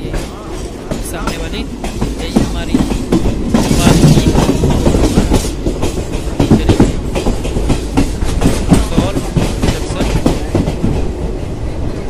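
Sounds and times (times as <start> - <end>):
train wheels clattering on rail joints: 0.0 - 11.4
train rumble: 0.0 - 12.0.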